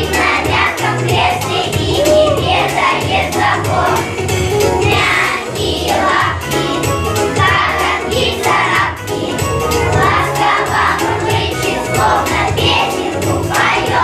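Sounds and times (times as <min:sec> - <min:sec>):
backing track with steady beat: 0:00.0 - 0:14.0
children's choir singing: 0:00.0 - 0:14.0.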